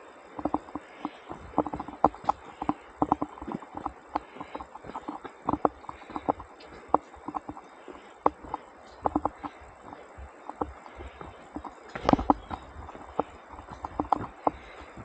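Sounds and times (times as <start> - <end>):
hollow wooden knocks: 0.4 - 7.6, 8.2 - 15.0.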